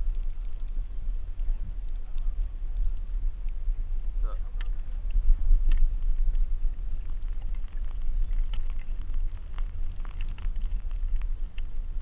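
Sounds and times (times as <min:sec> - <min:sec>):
small crackles: 0:00.0 - 0:12.0
wind buffeting microphone: 0:00.0 - 0:12.0.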